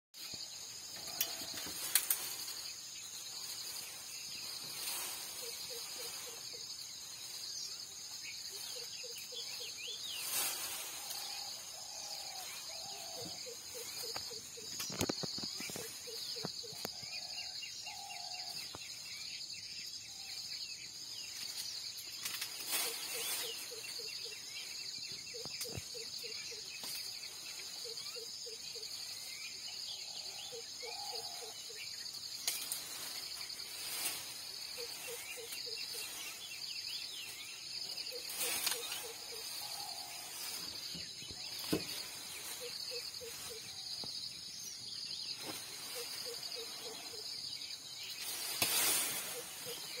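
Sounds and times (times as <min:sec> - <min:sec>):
birds calling: 0:00.2 - 0:50.0
high insect drone: 0:00.2 - 0:50.0.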